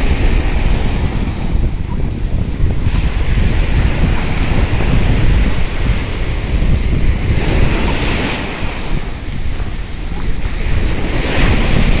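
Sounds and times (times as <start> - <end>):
small waves washing on sand: 0.0 - 12.0
wind buffeting microphone: 0.0 - 12.0.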